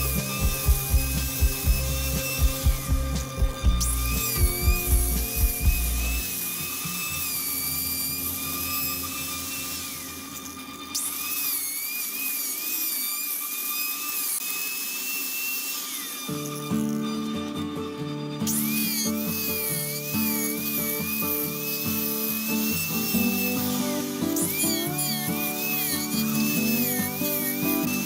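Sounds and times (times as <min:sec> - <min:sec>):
angle grinder sanding wood: 0:00.0 - 0:28.0.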